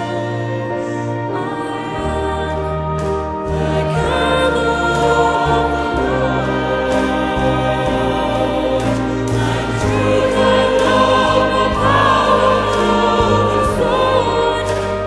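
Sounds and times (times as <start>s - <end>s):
choir singing worship song: 0.0s - 15.0s
steady bass accompaniment: 0.0s - 15.0s.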